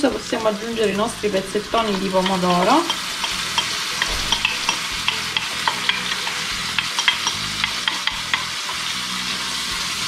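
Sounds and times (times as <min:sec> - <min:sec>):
oil popping and crackling: 0:00.0 - 0:10.0
onions sizzling in oil: 0:00.0 - 0:10.0.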